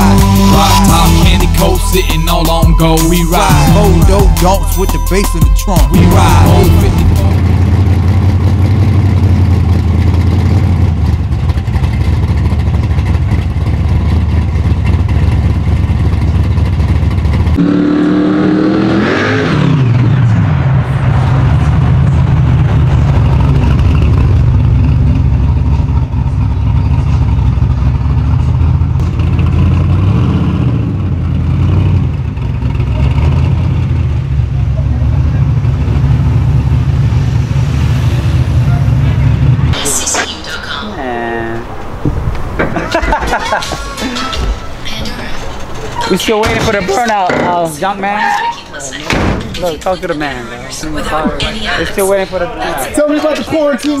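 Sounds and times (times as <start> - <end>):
car engine running: 0.0 - 48.1.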